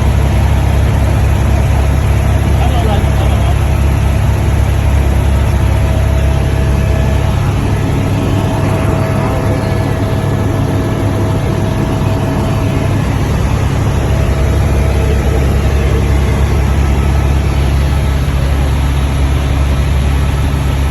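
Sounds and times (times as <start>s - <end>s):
helicopter engine and rotor drone: 0.0s - 20.9s.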